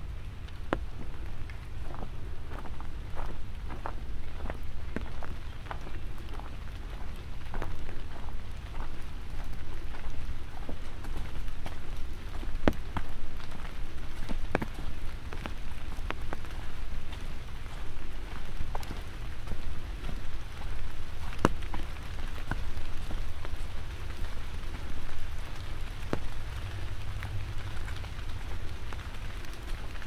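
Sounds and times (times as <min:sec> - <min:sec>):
light rain hiss: 0:00.0 - 0:30.0
raindrops ticking: 0:00.0 - 0:30.0.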